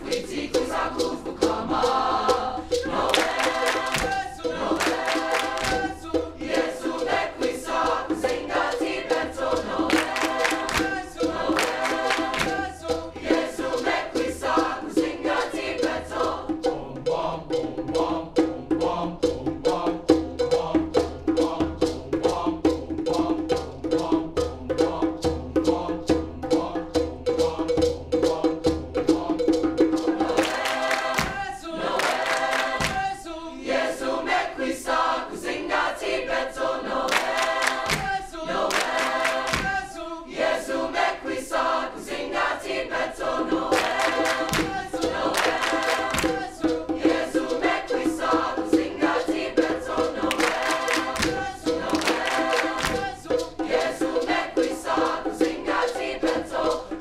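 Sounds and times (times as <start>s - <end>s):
choir singing: 0.0s - 57.0s
percussion: 0.0s - 57.0s.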